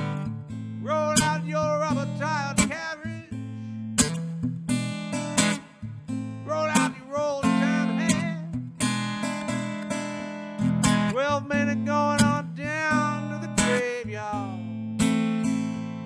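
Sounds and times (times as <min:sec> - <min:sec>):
acoustic guitar country blues: 0:00.0 - 0:16.0.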